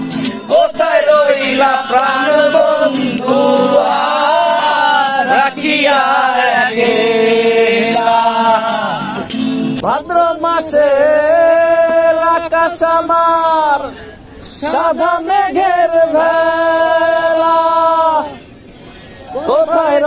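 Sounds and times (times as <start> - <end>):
person singing folk song: 0.0 - 20.0.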